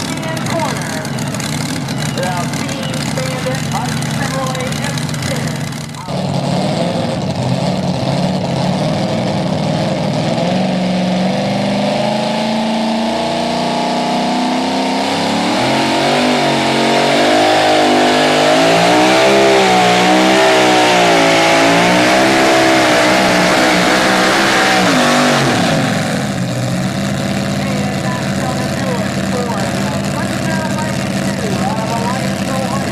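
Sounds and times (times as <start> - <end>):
truck engine at full throttle: 0.0 - 32.9.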